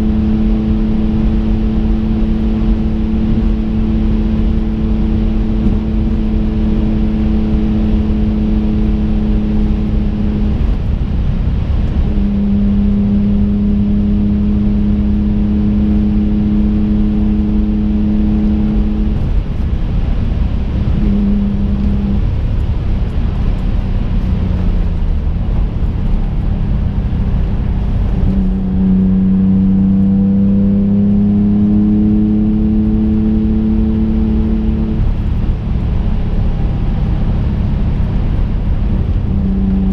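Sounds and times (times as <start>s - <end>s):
car engine cruising: 0.0s - 39.9s
road rumble inside car: 0.0s - 39.9s.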